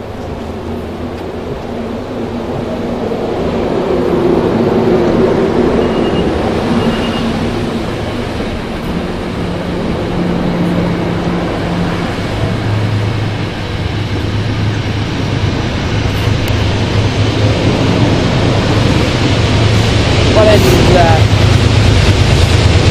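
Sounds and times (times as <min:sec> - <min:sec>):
diesel train engine humming: 0:00.0 - 0:22.9.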